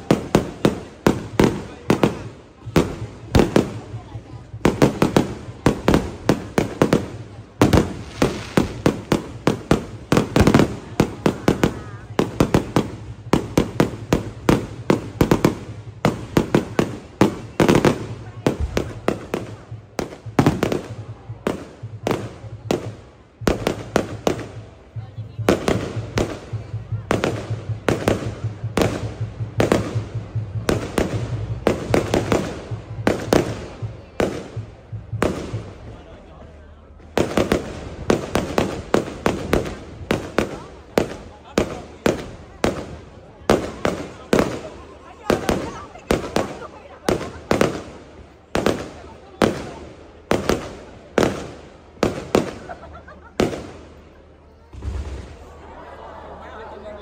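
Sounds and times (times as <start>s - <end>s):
fireworks exploding: 0.0s - 56.9s.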